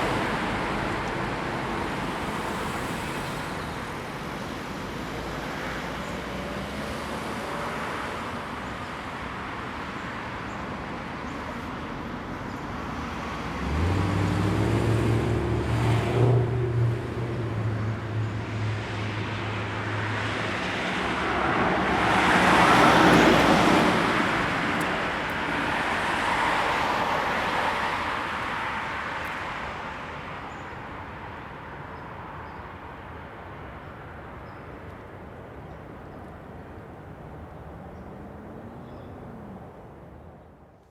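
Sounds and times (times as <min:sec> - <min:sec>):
cars passing on busy road: 0:00.0 - 0:40.9.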